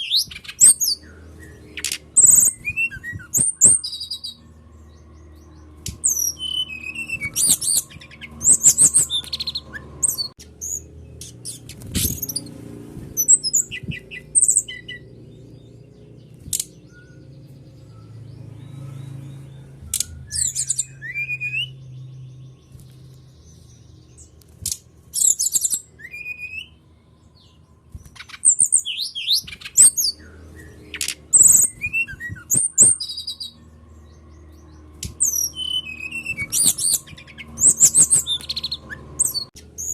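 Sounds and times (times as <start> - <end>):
flycatcher singing: 0.0 - 39.9.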